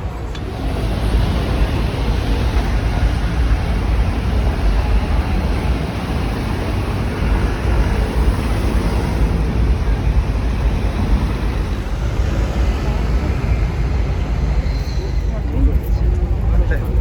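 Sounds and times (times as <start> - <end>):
traffic: 0.0 - 17.0
voices: 0.0 - 17.0.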